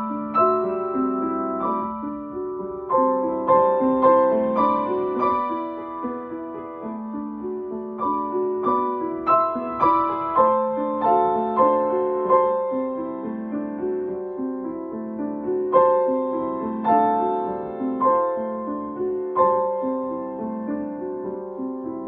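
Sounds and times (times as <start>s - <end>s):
grand piano chords: 0.0s - 22.0s.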